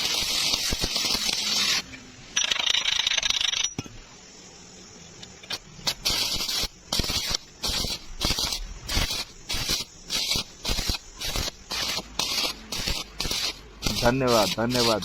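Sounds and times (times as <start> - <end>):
welding hissing and crackling: 0.0 - 15.0.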